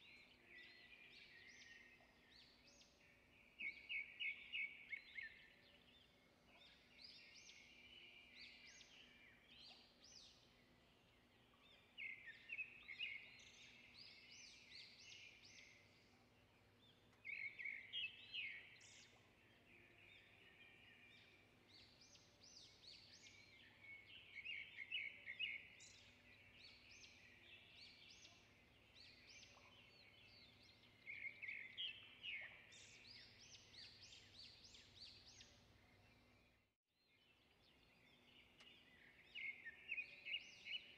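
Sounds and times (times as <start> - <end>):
faint birdsong: 0.0 - 40.9.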